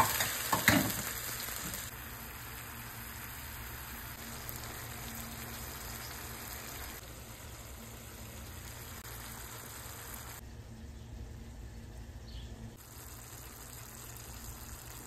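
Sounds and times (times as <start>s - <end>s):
sauce sizzling in a frying pan: 0.0s - 10.4s, 12.8s - 15.0s.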